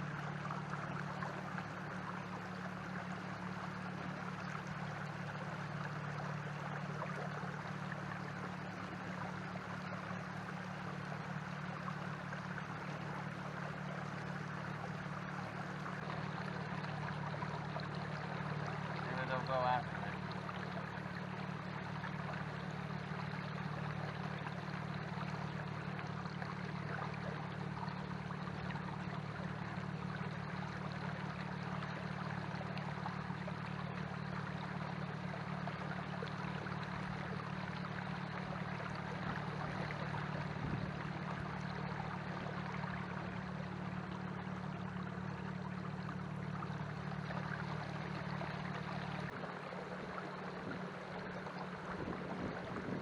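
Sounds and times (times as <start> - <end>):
low motor hum: 0.0 - 53.0
water washing along hull: 0.0 - 53.0.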